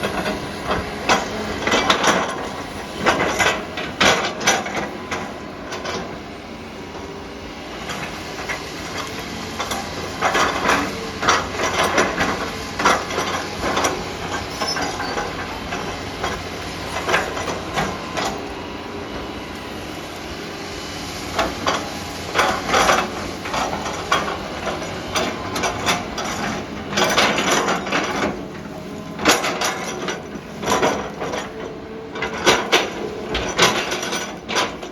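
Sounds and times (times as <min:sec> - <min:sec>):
metal clanks and knocks: 0:00.0 - 0:06.2, 0:07.9 - 0:18.4, 0:21.3 - 0:34.9
excavator diesel engine running: 0:00.0 - 0:34.9.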